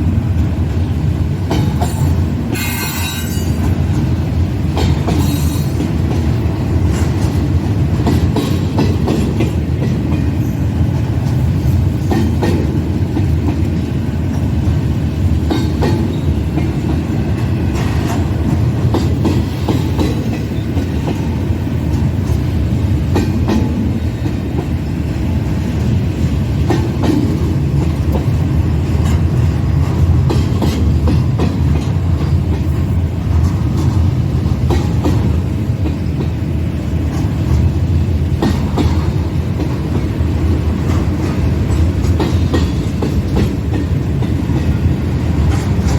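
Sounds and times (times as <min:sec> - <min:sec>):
freight train rumbling: 0:00.0 - 0:45.9
wheels clacking over rail joints: 0:00.2 - 0:45.9.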